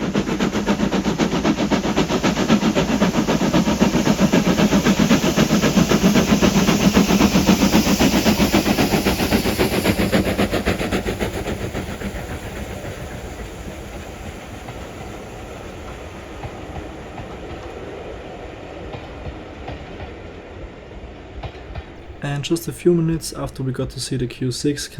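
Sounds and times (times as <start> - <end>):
steam locomotive chuffing: 0.0 - 19.8, 22.0 - 24.9.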